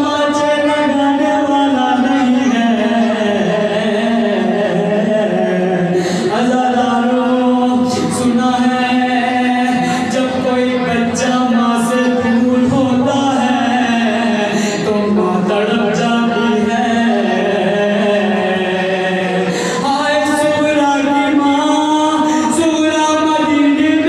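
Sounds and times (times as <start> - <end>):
men chanting lament: 0.0 - 24.0.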